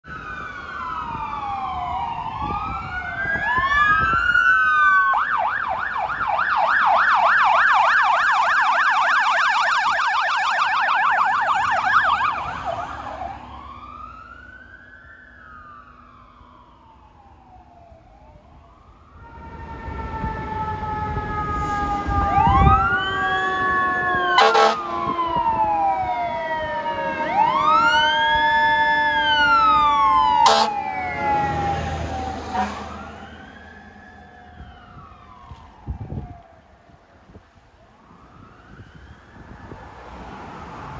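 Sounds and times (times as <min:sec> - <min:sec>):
fire engine siren wailing and yelping: 0:00.0 - 0:40.9.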